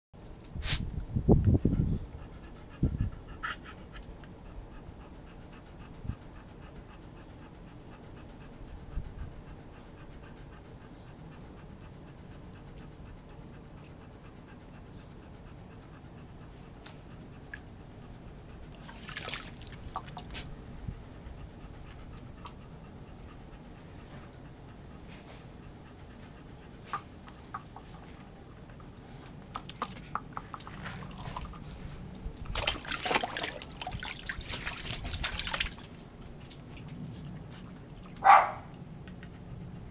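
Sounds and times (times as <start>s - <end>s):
dog panting: 1.3s - 39.9s.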